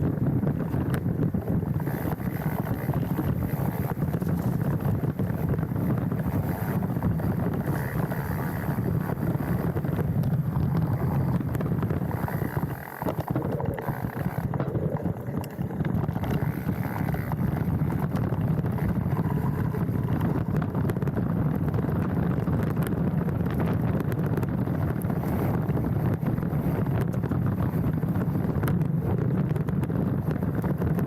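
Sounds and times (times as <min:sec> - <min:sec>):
bike rattling over dirt trail: 0:00.0 - 0:31.0
wind buffeting microphone: 0:00.0 - 0:31.0.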